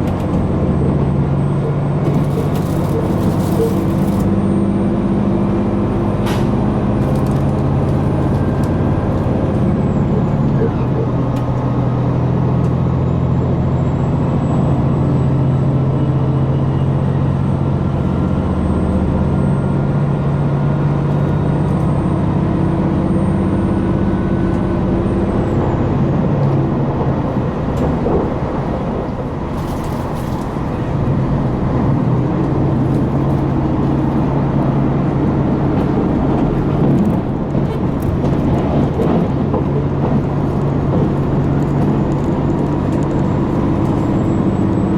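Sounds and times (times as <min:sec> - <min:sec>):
train diesel engine drone: 0:00.0 - 0:44.9.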